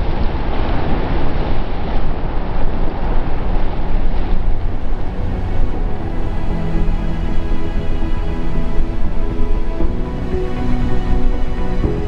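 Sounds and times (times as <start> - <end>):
low rumble: 0.0 - 12.0
ocean surf breaking: 0.0 - 12.0.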